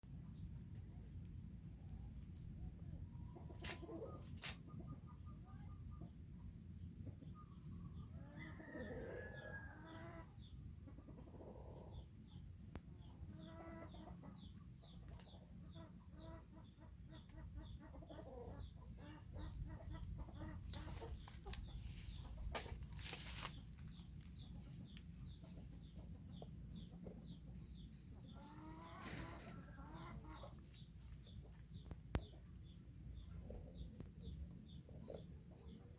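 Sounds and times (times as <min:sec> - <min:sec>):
chickens clucking: 0:00.1 - 0:35.9.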